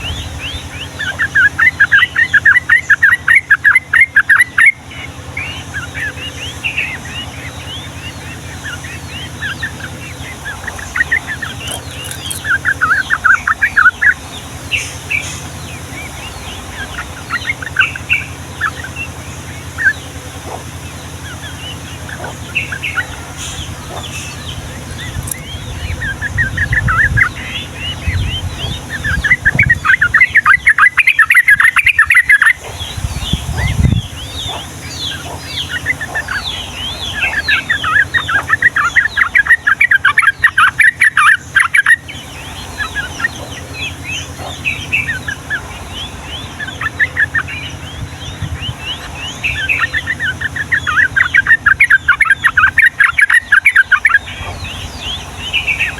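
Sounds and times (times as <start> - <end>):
birds singing rolling trills: 0.0 - 55.9
downward-slurred bird chirps: 0.0 - 55.9.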